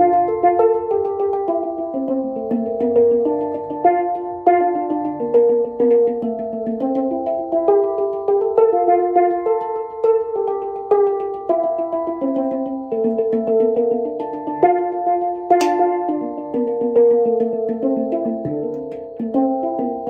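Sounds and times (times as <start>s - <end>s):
handpan notes ringing: 0.0s - 20.0s.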